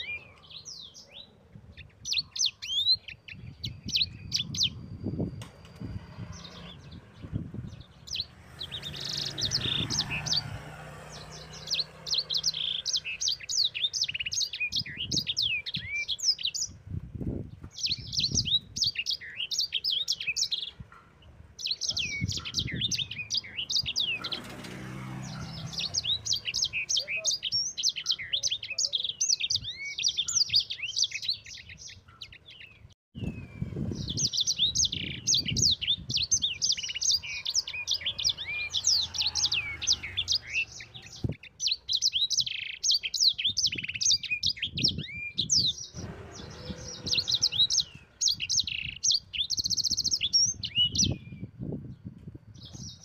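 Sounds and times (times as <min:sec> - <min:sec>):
songbird twittering and trilling: 0:00.0 - 0:53.0.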